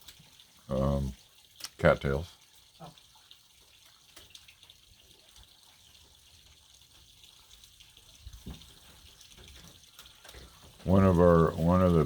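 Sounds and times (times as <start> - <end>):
trickle of pond waterfall: 0.0 - 12.0.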